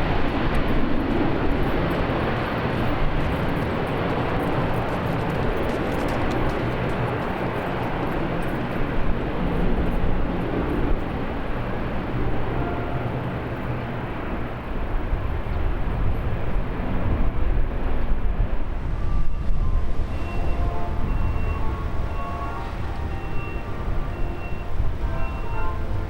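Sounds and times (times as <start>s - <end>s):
turboprop airliner landing: 0.0s - 26.0s
wind on microphone: 0.0s - 26.0s.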